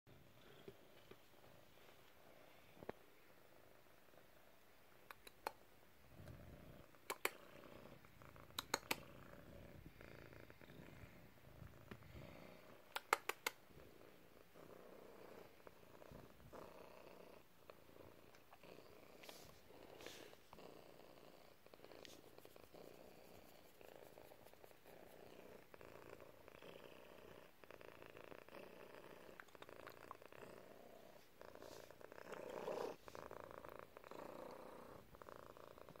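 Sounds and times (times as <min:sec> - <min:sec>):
cat purring: 0:00.1 - 0:36.0.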